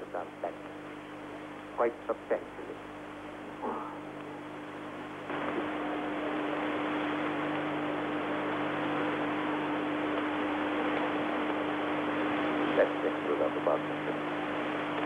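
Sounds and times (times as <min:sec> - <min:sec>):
low mains hum: 0:00.0 - 0:15.0
steady hiss: 0:00.0 - 0:15.0.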